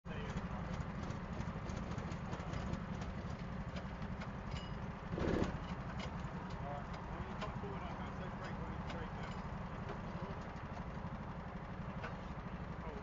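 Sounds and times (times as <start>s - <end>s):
go-kart engine idling: 0.1s - 13.0s.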